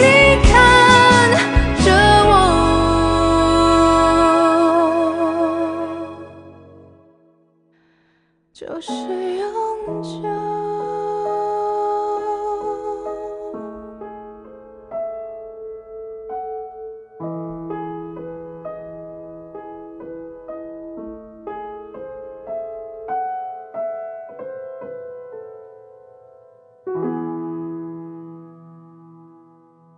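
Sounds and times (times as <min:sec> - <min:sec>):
solo piano melody: 0:00.0 - 0:07.7, 0:08.8 - 0:29.9.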